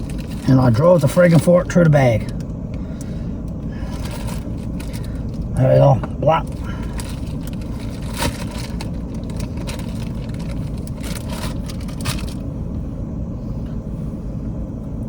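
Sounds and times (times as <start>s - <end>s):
gas stove burner roaring: 0.0s - 15.0s.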